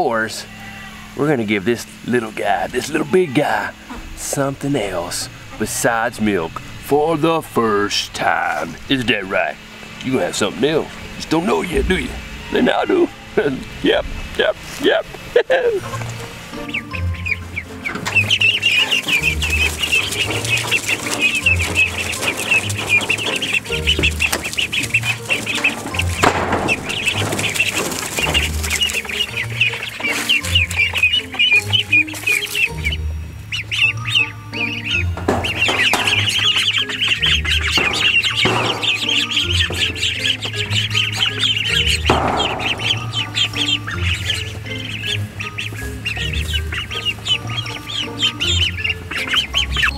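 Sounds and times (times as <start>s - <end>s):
ducklings peeping: 0.0s - 49.9s
background music with low beat: 4.0s - 49.9s.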